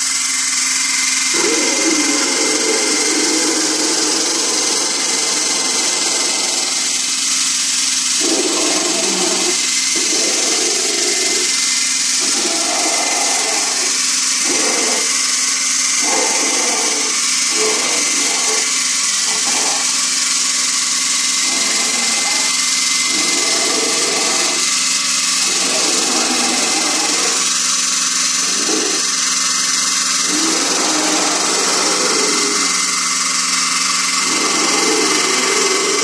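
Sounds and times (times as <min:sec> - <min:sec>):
small electric motors whirring: 0:00.0 - 0:36.0.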